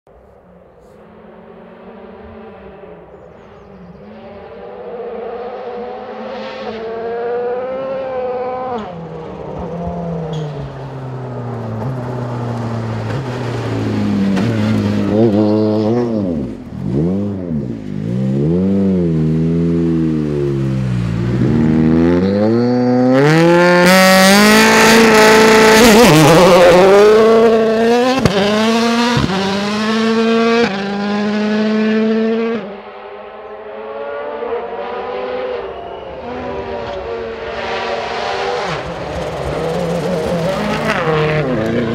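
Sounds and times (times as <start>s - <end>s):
rally car engine revving: 1.5s - 41.9s.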